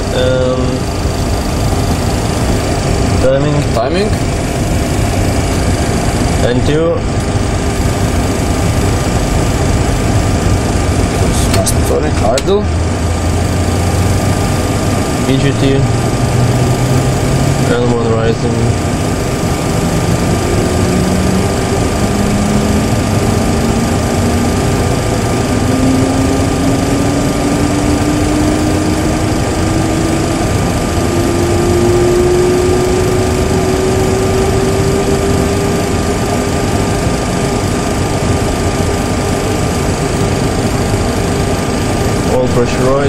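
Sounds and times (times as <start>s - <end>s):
jet engine spooling up whine: 0.0s - 43.0s
loud background hum: 0.0s - 43.0s.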